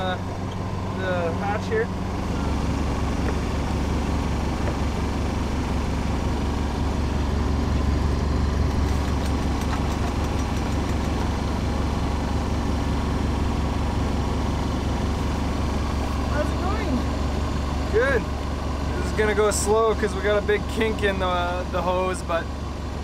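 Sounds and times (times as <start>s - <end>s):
diesel engine drone: 0.0s - 23.0s.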